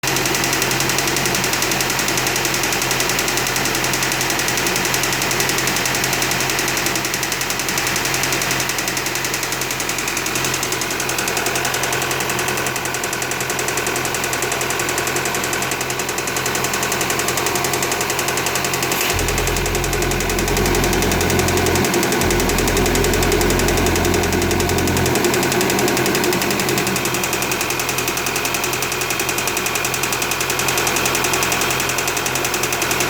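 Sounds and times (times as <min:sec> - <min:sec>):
car engine idling with ticking: 0:00.0 - 0:33.0.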